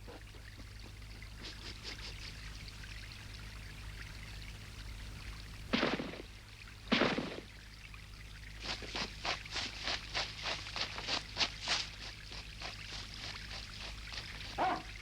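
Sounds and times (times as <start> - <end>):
liquid pouring and trickling: 0.0 - 15.0.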